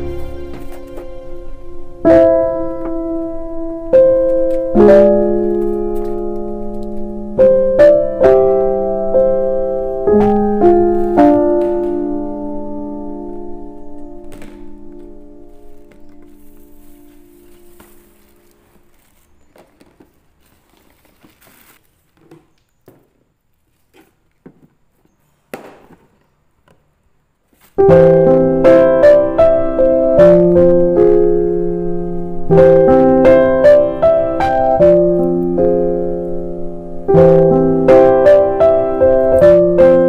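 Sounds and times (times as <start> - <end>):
background piano music: 0.0 - 20.6, 27.8 - 40.0.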